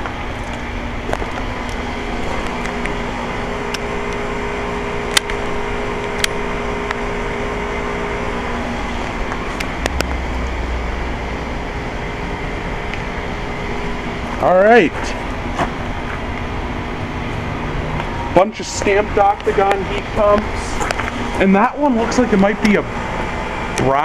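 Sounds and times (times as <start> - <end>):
heat pump unit humming: 0.0 - 24.0.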